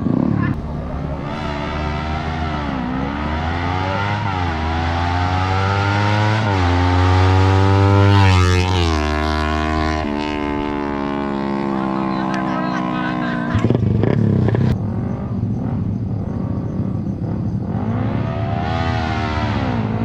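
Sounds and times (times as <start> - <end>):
motorcycle engine revving through gears: 0.0 - 20.0.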